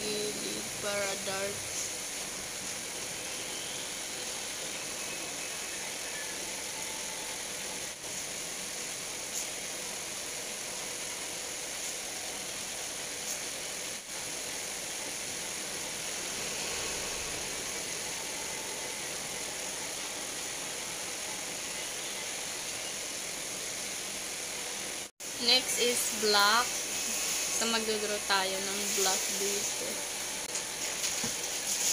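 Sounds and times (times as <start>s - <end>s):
steady background hiss: 0.0s - 31.9s.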